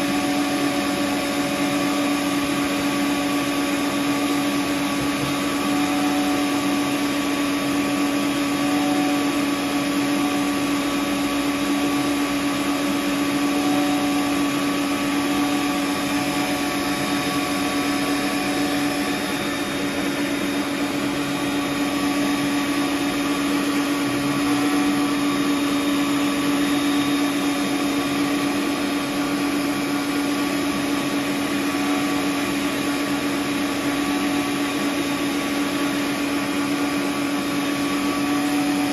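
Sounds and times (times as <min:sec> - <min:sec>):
electric stand mixer running: 0:00.0 - 0:38.9.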